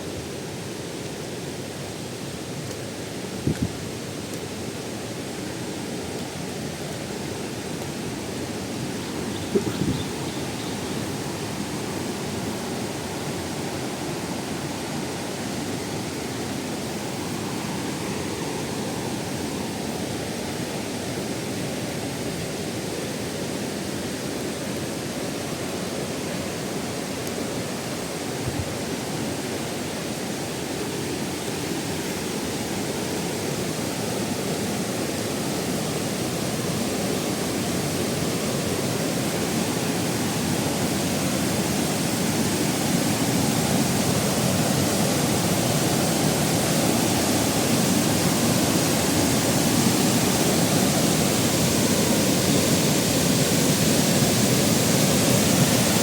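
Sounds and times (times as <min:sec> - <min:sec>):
waterfall cascading over rocks: 0:00.0 - 0:56.0.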